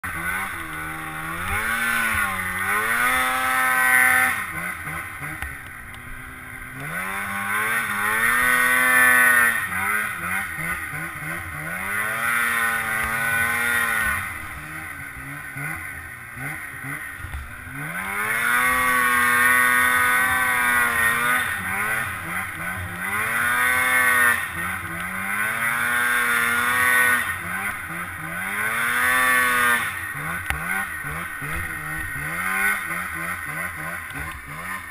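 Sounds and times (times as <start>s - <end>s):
snowmobile engine revving: 0.0s - 34.9s.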